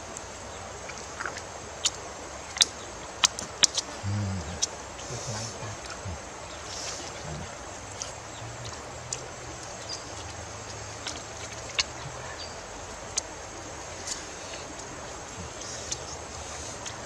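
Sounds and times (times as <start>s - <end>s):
faint low hum: 0.0s - 17.0s
shallow stream hissing: 0.0s - 17.0s.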